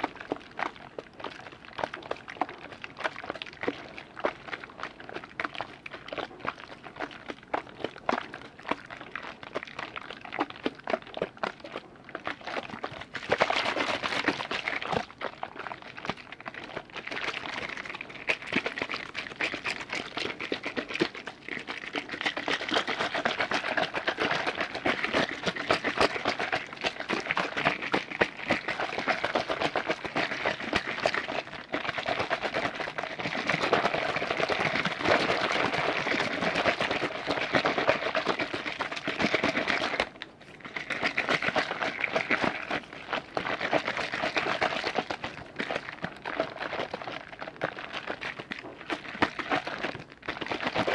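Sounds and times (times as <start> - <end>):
liquid clicks and pops: 0.0 - 50.9.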